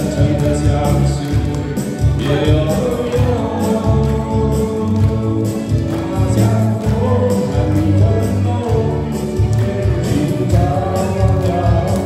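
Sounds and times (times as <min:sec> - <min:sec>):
karaoke backing track: 0:00.0 - 0:12.0
man singing into microphone: 0:00.0 - 0:12.0.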